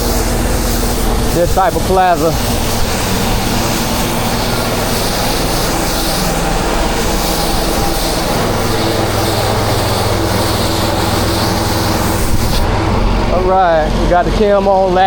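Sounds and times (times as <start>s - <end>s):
water spraying hiss: 0.0s - 13.6s
pressure washer engine running: 0.0s - 15.0s.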